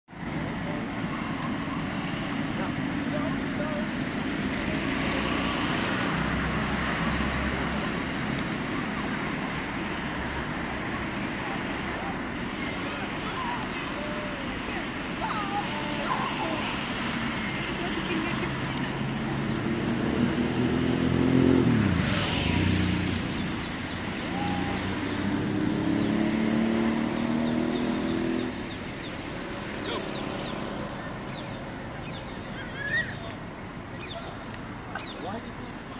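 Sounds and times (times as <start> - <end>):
city traffic noise: 0.0 - 35.9
vehicle engines passing: 0.1 - 35.9.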